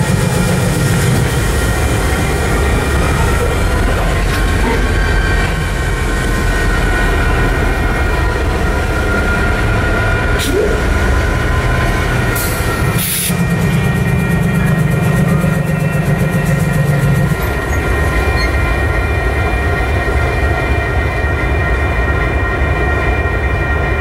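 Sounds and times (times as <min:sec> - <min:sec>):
train rumbling past: 0:00.0 - 0:24.0
railroad crossing bells ringing: 0:01.9 - 0:24.0.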